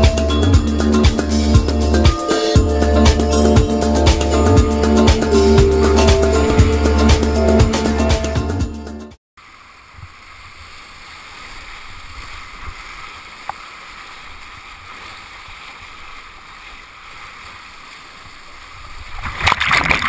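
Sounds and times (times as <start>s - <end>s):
whitewater rushing: 0.9s - 8.6s, 9.4s - 19.7s.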